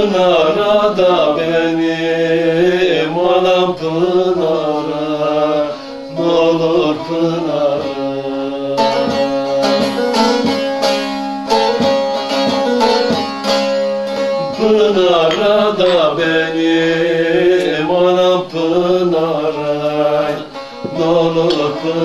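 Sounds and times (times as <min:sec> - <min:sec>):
man singing: 0:00.0 - 0:10.1, 0:14.2 - 0:22.0
plucked long-necked lutes: 0:00.0 - 0:22.0.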